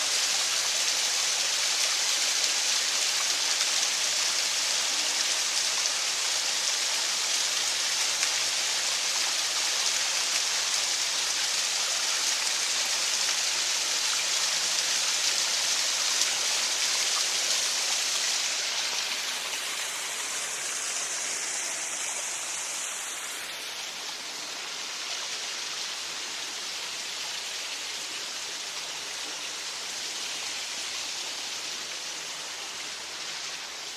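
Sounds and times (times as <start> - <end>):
small waterfall splashing: 0.0 - 33.9.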